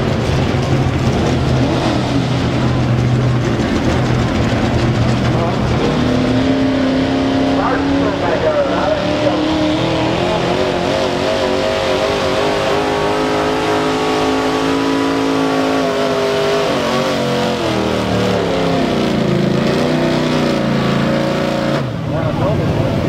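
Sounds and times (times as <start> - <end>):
truck engine at high revs: 0.0 - 23.0.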